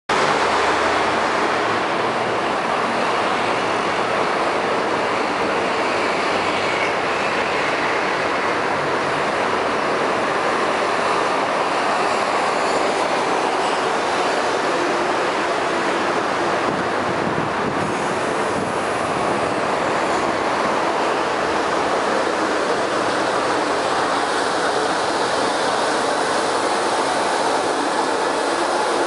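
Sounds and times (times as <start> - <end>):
train wheels on rails: 0.1 - 29.0.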